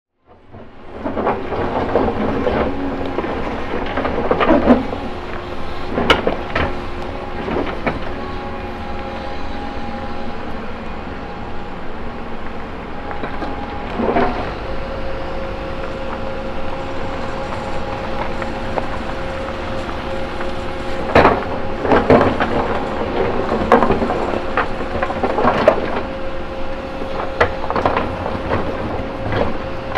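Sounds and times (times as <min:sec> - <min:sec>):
excavator engine droning: 0:00.2 - 0:29.9.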